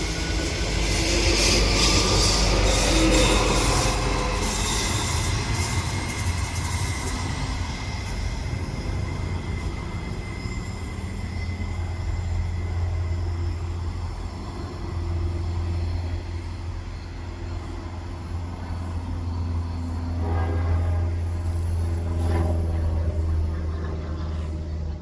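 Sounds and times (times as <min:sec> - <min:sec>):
electric train hum and rumble: 0:00.0 - 0:25.0.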